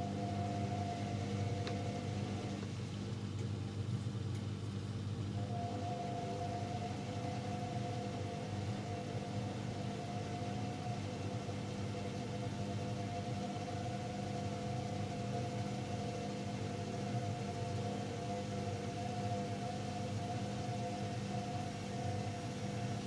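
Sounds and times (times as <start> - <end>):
washing machine motor hum: 0.0 - 23.0
washing machine whine: 0.0 - 23.0.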